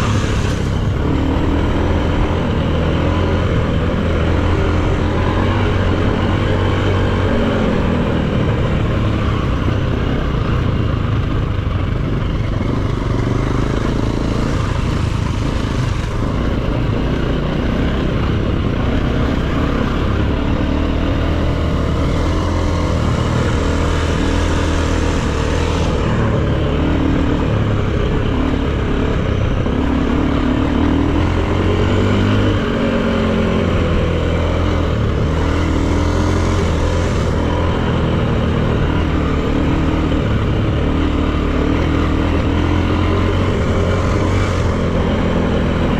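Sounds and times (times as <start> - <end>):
dirt bike engine revving: 0.0 - 10.9, 12.0 - 45.9.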